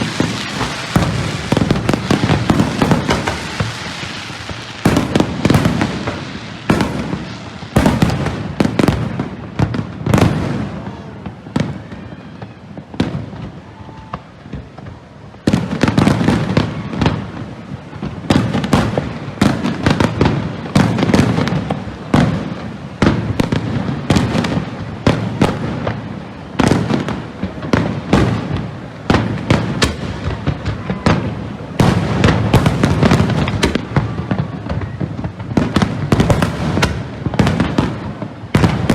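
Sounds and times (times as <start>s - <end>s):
fireworks bursting: 0.0s - 38.9s
fireworks crackling: 0.0s - 38.9s.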